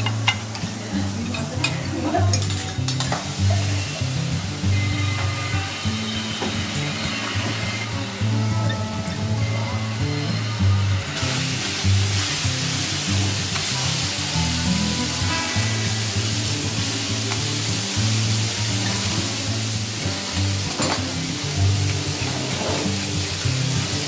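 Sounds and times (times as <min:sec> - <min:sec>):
background music with bass line: 0:00.0 - 0:24.0
food sizzling on a griddle: 0:00.0 - 0:24.0.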